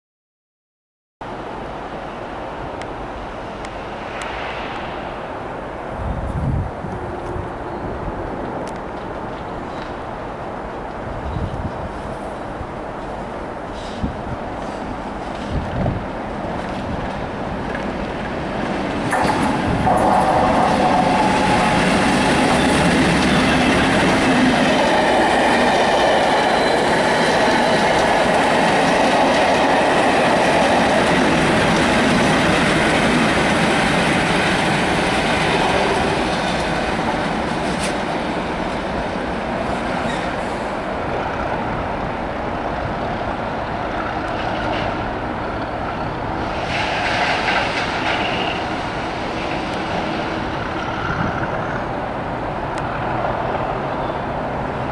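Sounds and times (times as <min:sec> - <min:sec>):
train wheels on rails: 0:01.8 - 0:54.9
diesel locomotive engines running: 0:06.0 - 0:54.9.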